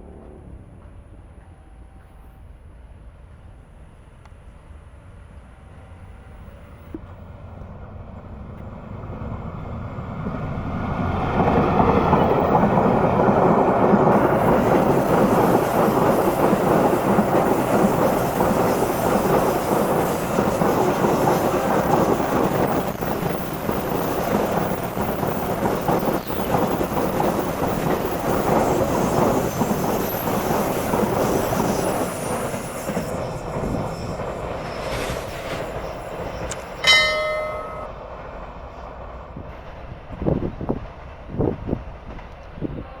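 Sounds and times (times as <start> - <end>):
train rumbling past: 0.0 - 43.0.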